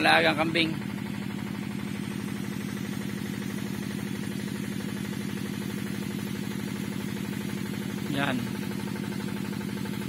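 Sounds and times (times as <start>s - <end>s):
water pump engine throbbing: 0.0s - 10.0s.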